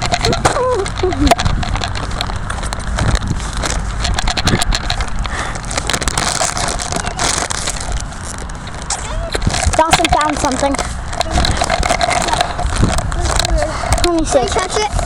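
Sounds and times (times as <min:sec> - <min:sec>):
footsteps crunching over ground: 0:00.0 - 0:15.0
low microphone rumble: 0:00.0 - 0:15.0.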